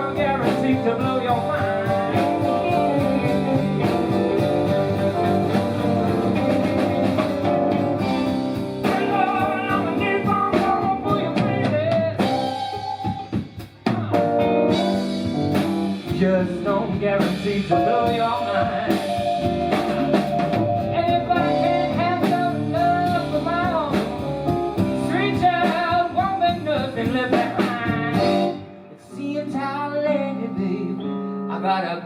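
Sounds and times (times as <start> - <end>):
sliding lead guitar line: 0.0 - 31.5
live blues band playing: 0.0 - 32.0.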